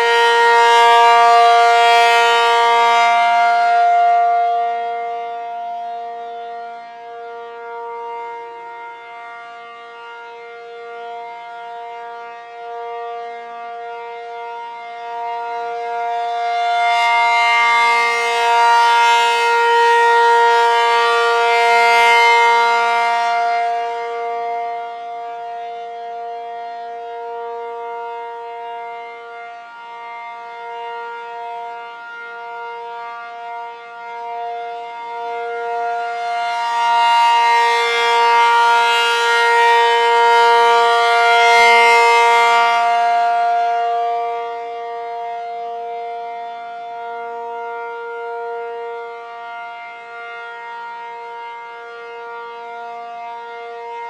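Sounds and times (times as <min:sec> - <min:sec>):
rotating warning siren: 0:00.0 - 0:54.0.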